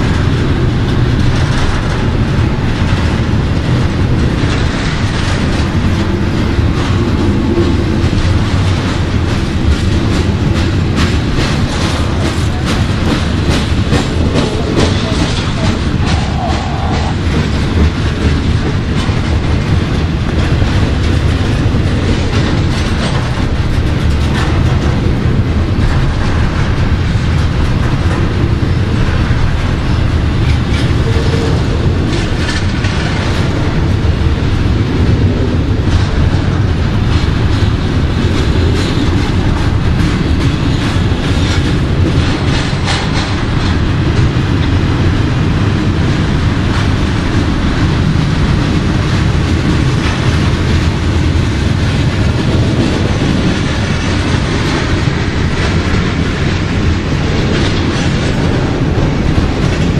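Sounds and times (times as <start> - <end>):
train wheels rumbling on rails: 0.0 - 59.9
wheels clacking over rail joints: 0.0 - 59.9.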